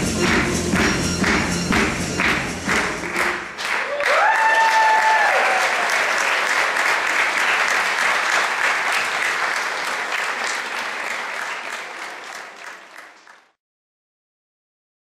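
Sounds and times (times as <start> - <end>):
audience applauding: 0.2 - 13.6.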